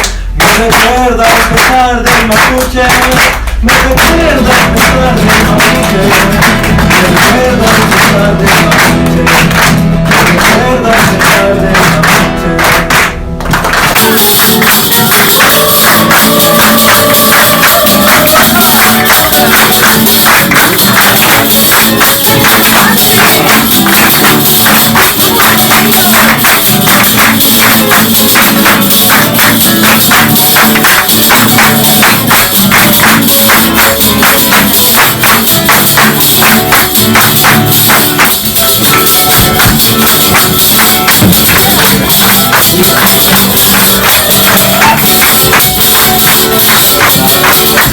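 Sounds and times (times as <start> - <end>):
shaken percussion: 0.0 - 47.9
held melodic notes: 4.2 - 47.9.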